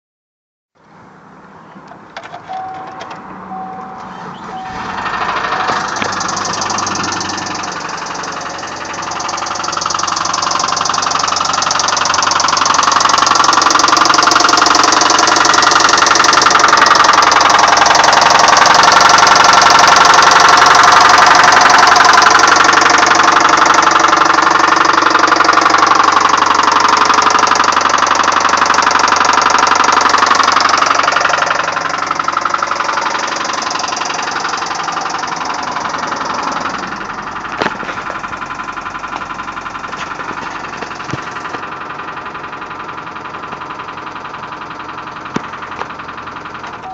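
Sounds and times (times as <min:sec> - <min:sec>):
car engine with rapid knock: 0:01.8 - 0:46.9.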